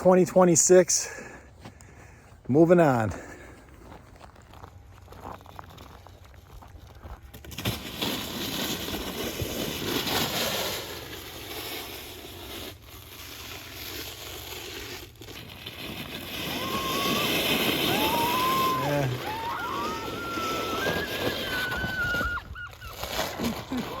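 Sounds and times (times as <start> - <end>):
icy snow crunching: 0.9 - 24.0.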